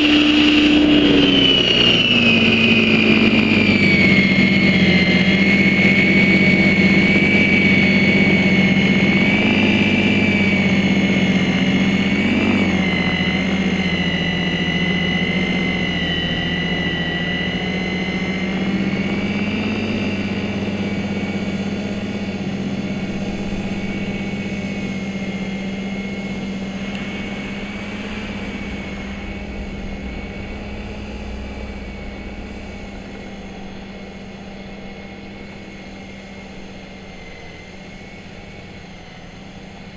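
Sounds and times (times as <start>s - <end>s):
electric snow thrower whining: 0.0s - 39.9s.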